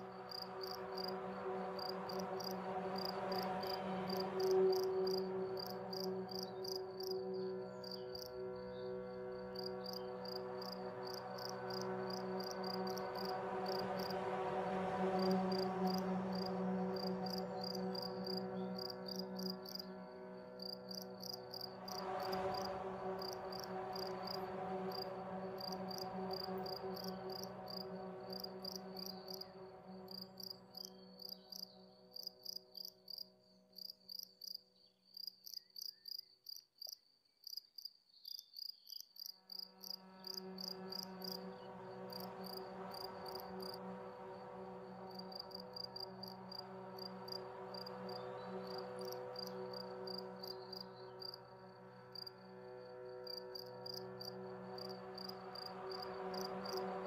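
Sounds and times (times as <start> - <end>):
low held drone: 0.0 - 33.8, 39.7 - 57.0
crickets chirping: 0.0 - 57.0.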